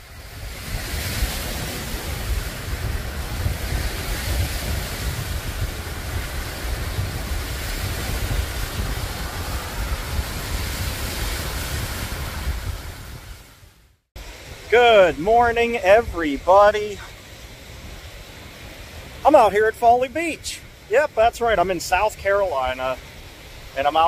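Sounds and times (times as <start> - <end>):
ocean surf on a beach: 0.0 - 24.0
wind buffeting microphone: 0.0 - 24.0.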